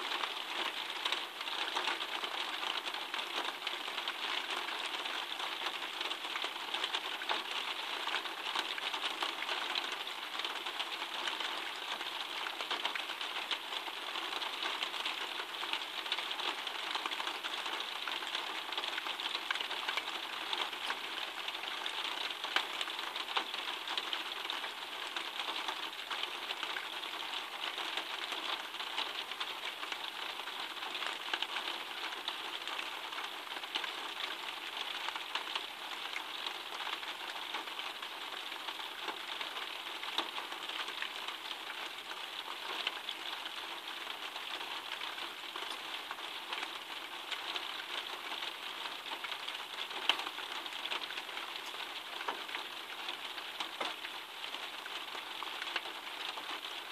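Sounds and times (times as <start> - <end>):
steady rain pattering: 0.0 - 56.9.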